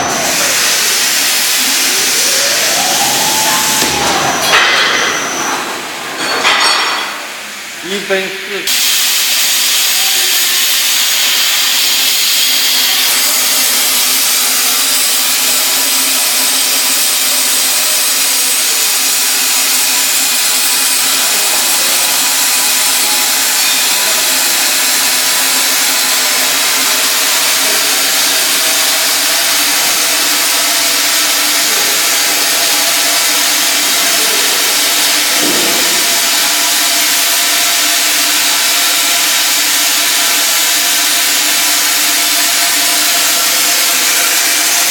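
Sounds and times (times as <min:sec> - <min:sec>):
duct forming machine running: 0:00.0 - 0:06.2, 0:08.7 - 0:44.9.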